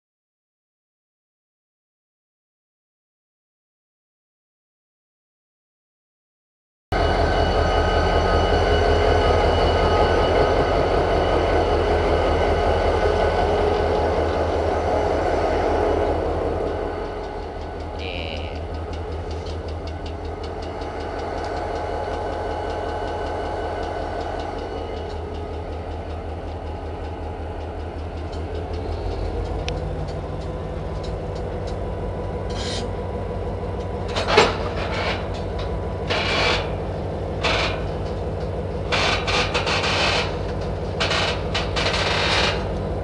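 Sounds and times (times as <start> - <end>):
diesel locomotive engine running: 7.0 - 43.0.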